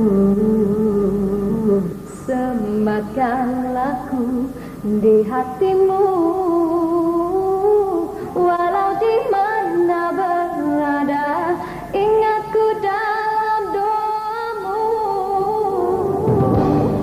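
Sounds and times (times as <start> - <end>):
woman singing a ballad: 0.0 - 17.0.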